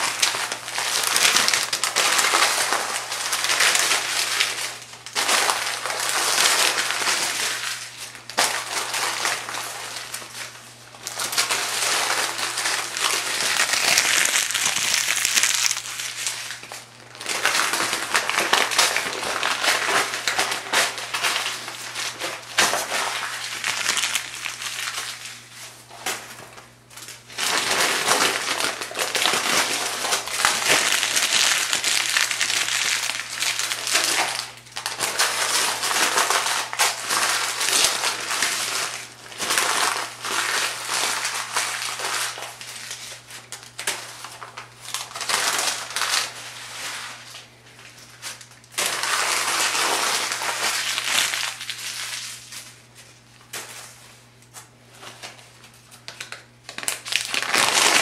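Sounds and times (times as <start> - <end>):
paper crumpling: 0.0 - 58.0.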